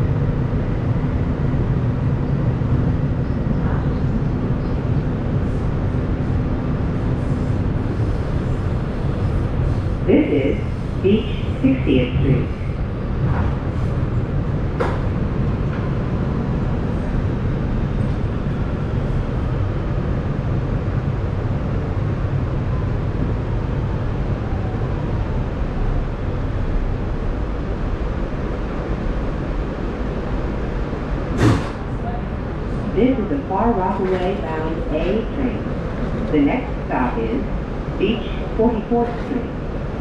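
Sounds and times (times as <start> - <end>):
subway train rumbling and braking: 0.0 - 40.0.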